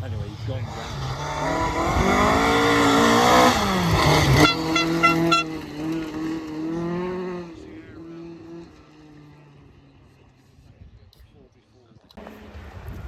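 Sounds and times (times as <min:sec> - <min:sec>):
rally car passing at speed: 0:00.0 - 0:10.6
engine crackles: 0:00.0 - 0:11.4.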